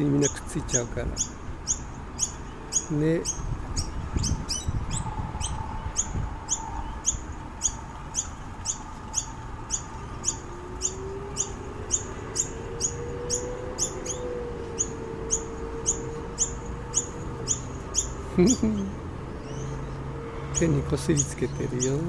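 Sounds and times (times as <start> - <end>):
bird giving sharp high calls: 0.0 - 22.0.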